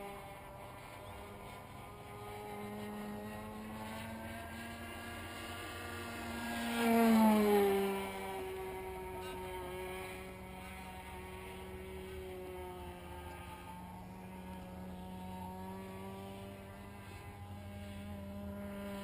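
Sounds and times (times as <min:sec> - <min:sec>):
model airplane engine passing by: 0:00.0 - 0:19.0.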